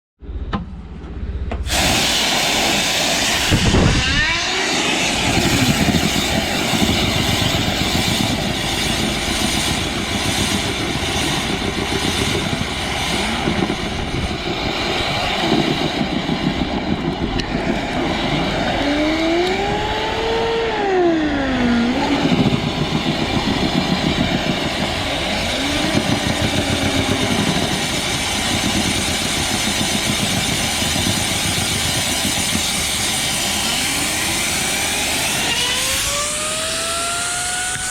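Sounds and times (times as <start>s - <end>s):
dryer vent cleaner running: 1.0s - 37.9s.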